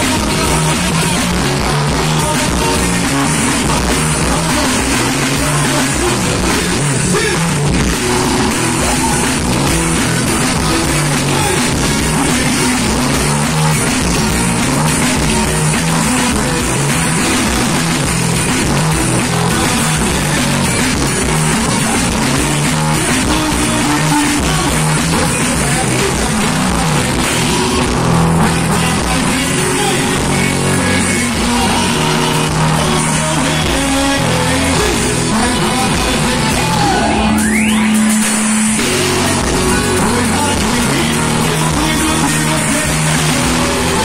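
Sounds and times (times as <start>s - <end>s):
man singing: 0.0s - 37.4s, 38.6s - 44.0s
drum kit: 0.0s - 44.0s
electric guitar: 0.0s - 44.0s.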